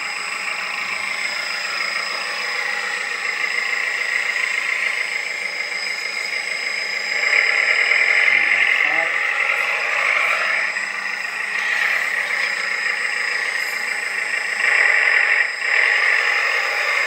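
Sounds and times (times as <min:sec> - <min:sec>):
simulated diesel engine sound: 0:00.0 - 0:17.0.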